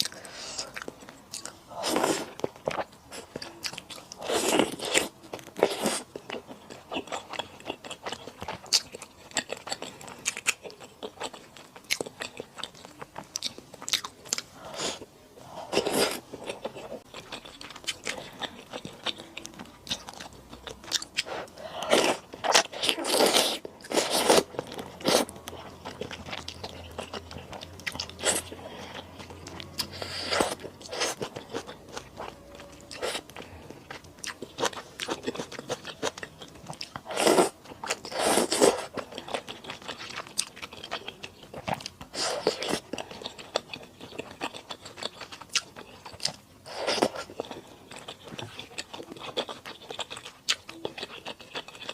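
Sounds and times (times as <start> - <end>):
person chewing noodles: 0.0 - 51.9.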